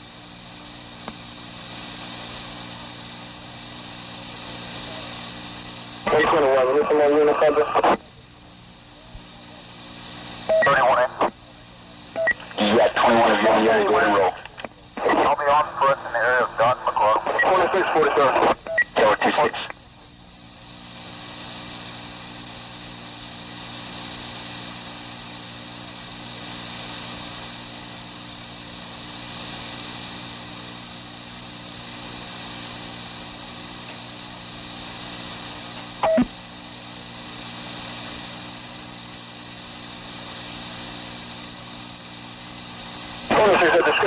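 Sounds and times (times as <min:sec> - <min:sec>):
tape hiss and low hum: 0:00.0 - 0:44.0.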